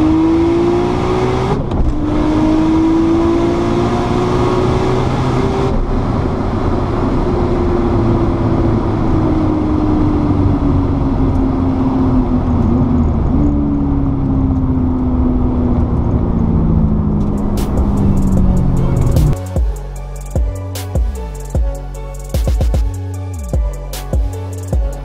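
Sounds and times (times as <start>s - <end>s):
car engine decelerating: 0.0s - 20.7s
road and wind rumble: 0.0s - 25.0s.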